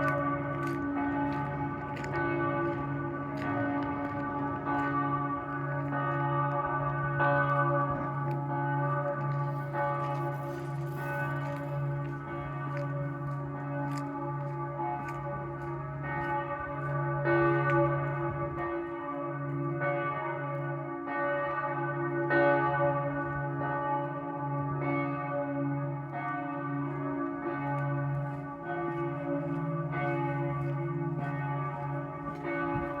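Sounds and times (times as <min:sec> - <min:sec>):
church bells pealing: 0:00.0 - 0:33.0.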